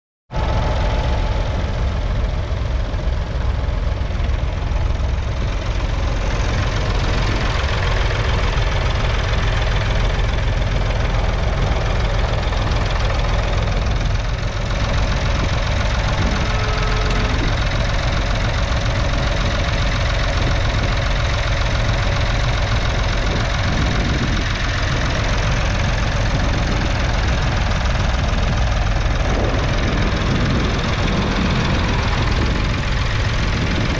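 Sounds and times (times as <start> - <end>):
tractor diesel engine under load: 0.3 - 33.9.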